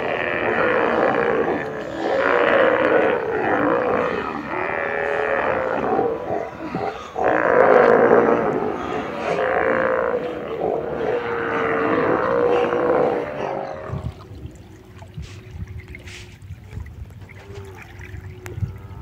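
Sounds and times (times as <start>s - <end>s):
sea lions roaring and growling: 0.0s - 16.3s, 17.2s - 19.0s
faint water sounds: 0.0s - 19.0s.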